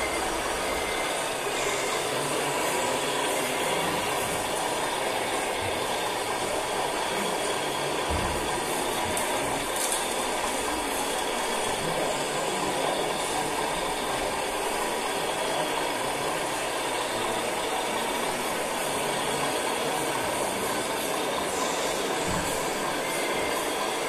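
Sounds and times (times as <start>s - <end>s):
whirring of hydraulic pumps: 0.0s - 24.0s.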